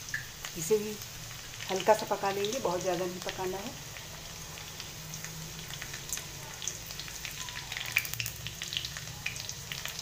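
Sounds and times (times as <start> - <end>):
garlic sizzling in hot oil: 0.0 - 10.0.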